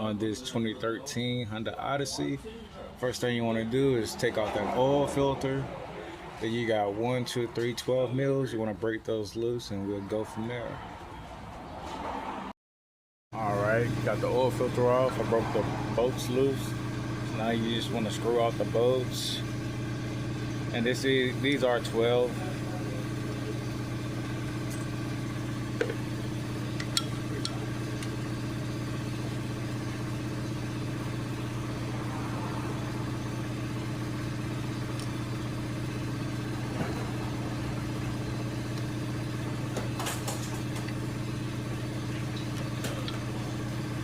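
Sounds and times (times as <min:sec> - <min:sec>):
steady mechanical hum: 0:00.0 - 0:11.4, 0:13.4 - 0:44.0.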